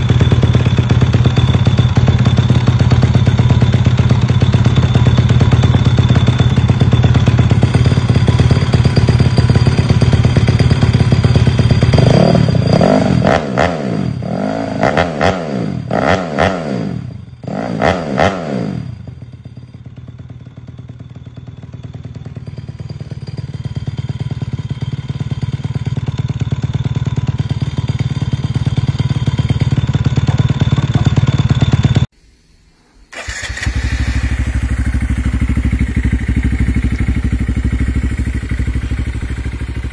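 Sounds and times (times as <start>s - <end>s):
motorcycle engine revving: 0.0s - 32.1s, 33.1s - 39.9s.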